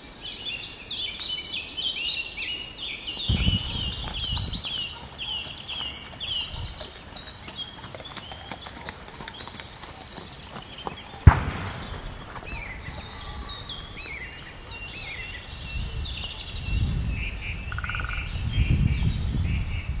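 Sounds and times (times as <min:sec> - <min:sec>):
birds chirping and singing: 0:00.0 - 0:20.0.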